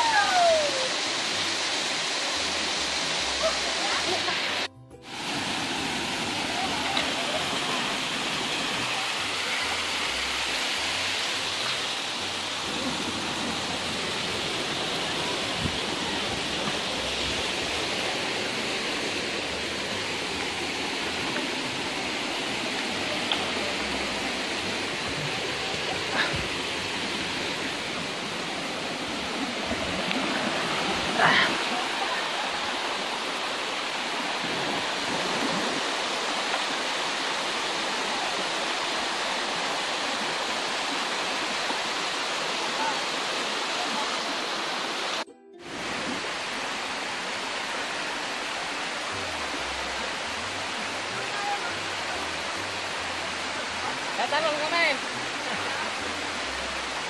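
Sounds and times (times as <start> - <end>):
waterfall over rocks: 0.0 - 57.0.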